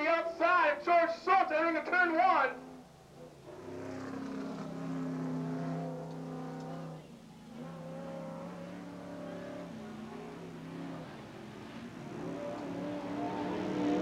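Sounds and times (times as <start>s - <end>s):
race truck engines running: 2.5s - 14.0s.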